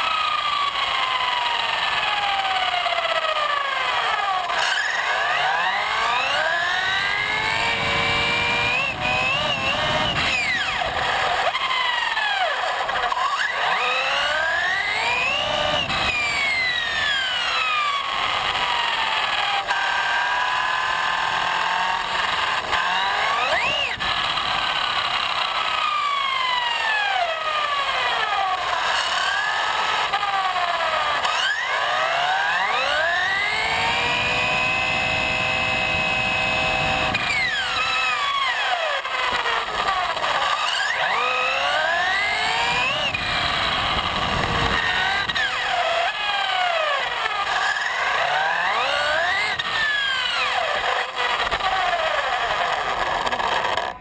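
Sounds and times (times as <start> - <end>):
electric motor whining: 0.0 - 54.0
tyre and road noise: 0.0 - 54.0.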